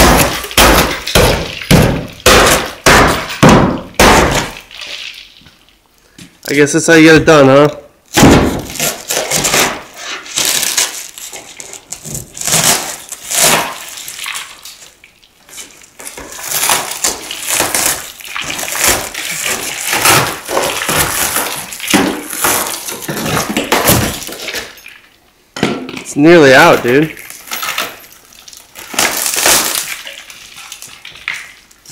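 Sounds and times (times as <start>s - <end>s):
windshield glass crunching: 0.0s - 5.4s, 8.1s - 25.0s, 27.2s - 31.1s.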